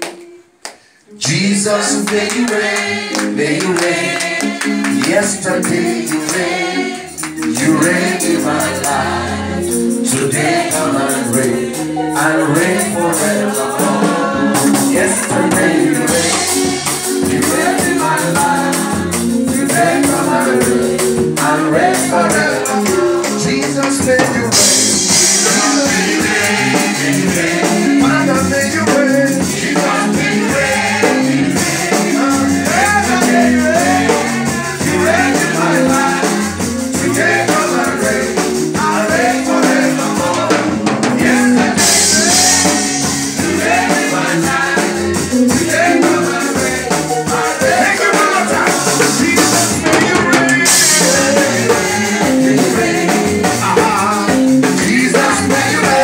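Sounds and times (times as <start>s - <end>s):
live band with drums and bass: 0.0s - 56.0s
voices singing: 0.0s - 56.0s.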